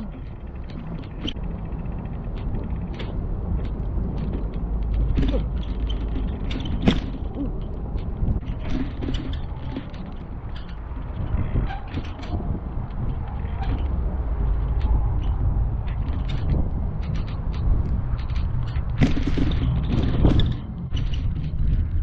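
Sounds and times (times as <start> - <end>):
bike clicks and rattles: 0.0 - 22.0
wind buffeting microphone: 0.0 - 22.0.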